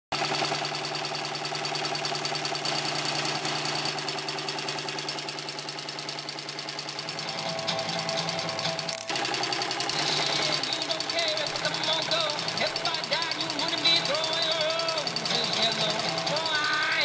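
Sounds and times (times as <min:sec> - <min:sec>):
embroidery machine needle strokes: 0:00.2 - 0:17.0
steady motor hum: 0:00.2 - 0:17.0.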